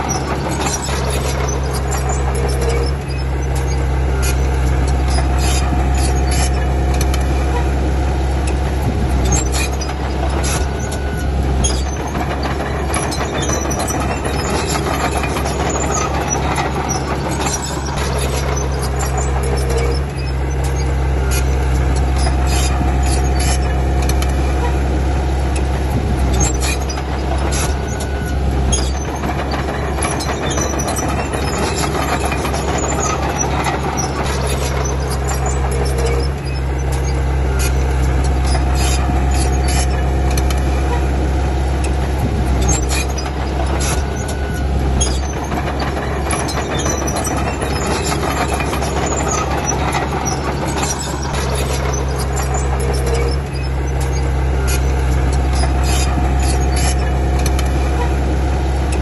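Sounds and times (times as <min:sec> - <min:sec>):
bulldozer diesel engine running: 0:00.0 - 0:59.0
steel tracks clanking and squealing: 0:00.0 - 0:59.0.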